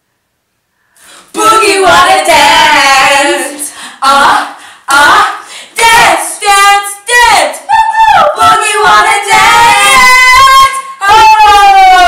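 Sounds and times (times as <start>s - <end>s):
women singing unaccompanied: 1.2s - 11.3s.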